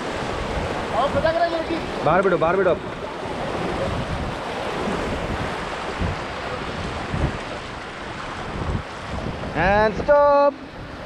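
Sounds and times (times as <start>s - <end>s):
river rapids rushing: 0.0s - 11.0s
wind buffeting microphone: 0.0s - 11.0s.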